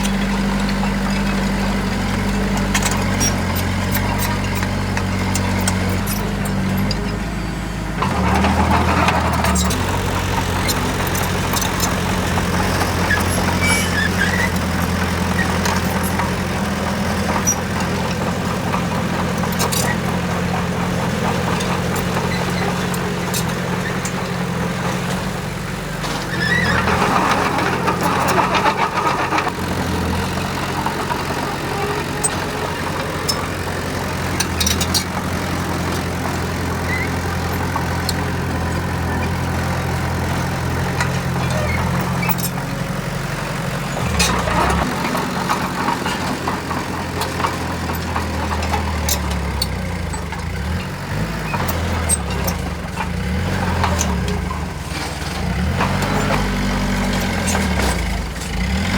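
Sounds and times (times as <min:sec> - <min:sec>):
heavy diesel machinery engine: 0:00.0 - 0:58.9.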